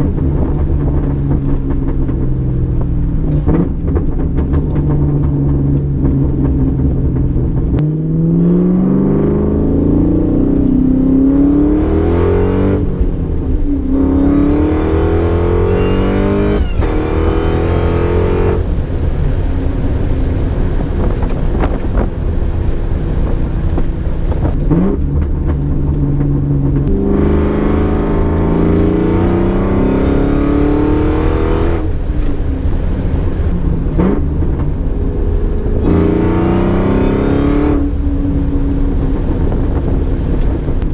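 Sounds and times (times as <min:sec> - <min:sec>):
car engine accelerating hard: 0:00.0 - 0:40.9
low exhaust rumble: 0:00.0 - 0:40.9.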